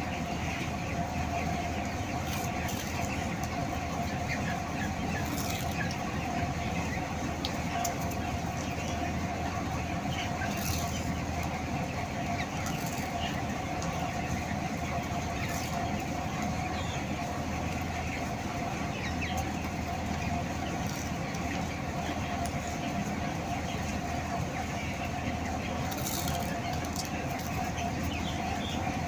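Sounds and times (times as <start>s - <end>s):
chickens calling: 0.0s - 29.0s.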